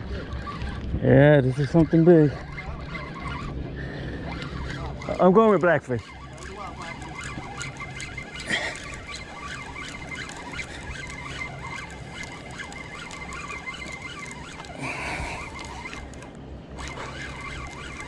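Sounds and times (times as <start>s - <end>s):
fishing reel clicking and whirring: 0.0s - 18.0s.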